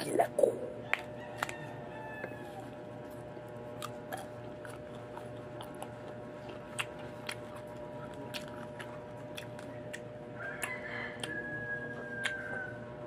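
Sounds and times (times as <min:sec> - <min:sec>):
faint steady hum: 0:00.0 - 0:13.0
crunchy chewing: 0:00.8 - 0:13.0.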